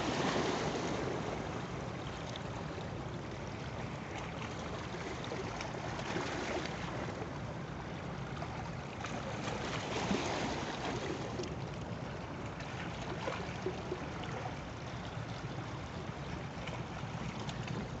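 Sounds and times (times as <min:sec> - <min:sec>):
boat rushing through water: 0:00.0 - 0:18.0.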